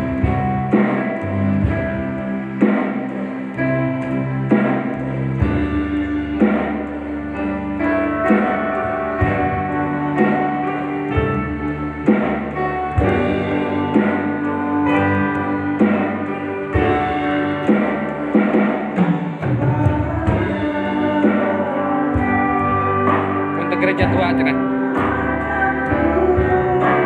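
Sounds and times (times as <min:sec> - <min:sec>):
electronic drum beat: 0:00.0 - 0:21.6, 0:22.2 - 0:27.0
held chords and melody: 0:00.0 - 0:27.0.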